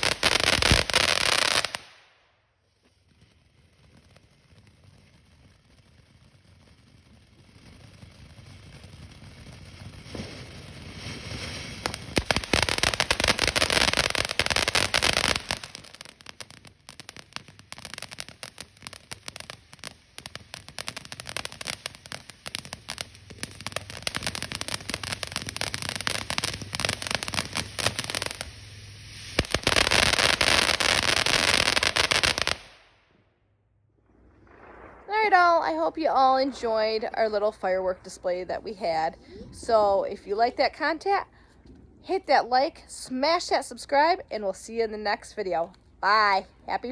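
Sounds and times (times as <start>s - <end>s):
fireworks crackling and popping: 0.0s - 43.9s.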